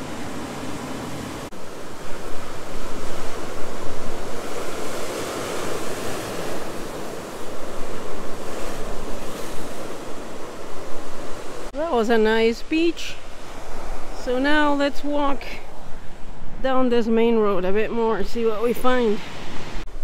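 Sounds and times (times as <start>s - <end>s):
ocean waves breaking on rocks: 0.0s - 16.6s.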